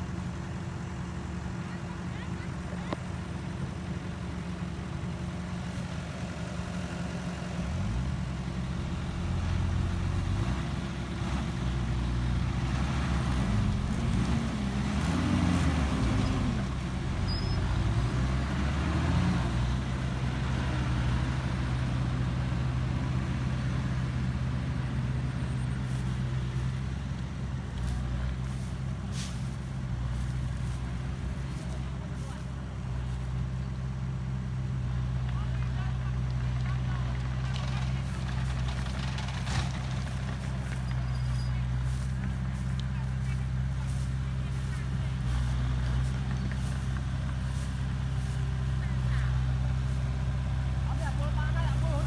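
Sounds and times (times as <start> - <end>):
heavy diesel engine revving: 6.2 - 35.2, 36.0 - 52.0.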